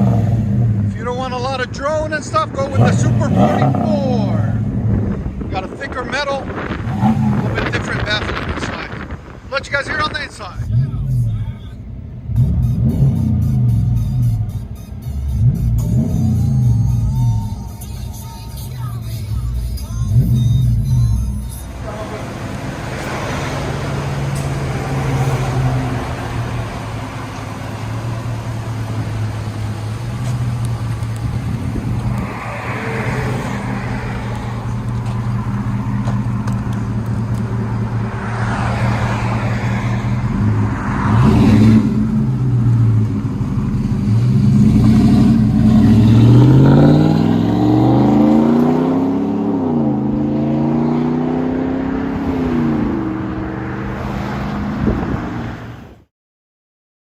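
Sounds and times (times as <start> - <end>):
truck engine accelerating: 0.0 - 56.1.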